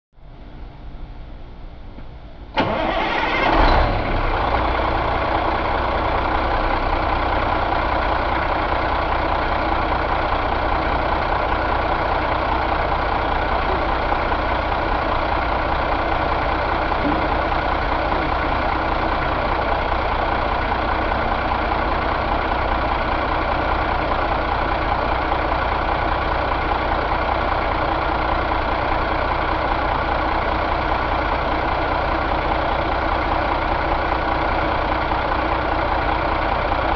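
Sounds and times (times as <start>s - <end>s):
diesel engine idling: 2.4s - 36.9s.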